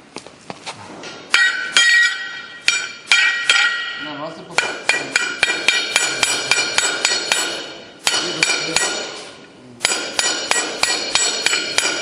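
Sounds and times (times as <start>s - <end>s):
rapid metal hammering: 1.3s - 12.0s.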